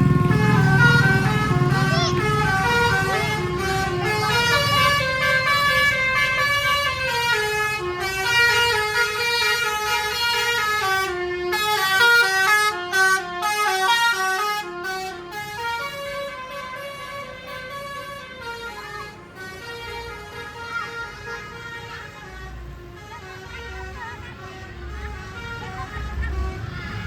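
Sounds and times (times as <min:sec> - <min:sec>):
multi-tone musical bus horn: 0:00.0 - 0:27.0.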